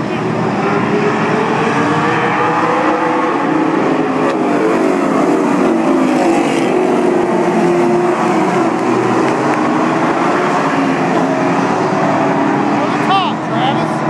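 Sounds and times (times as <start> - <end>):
race car engines running: 0.0 - 14.0.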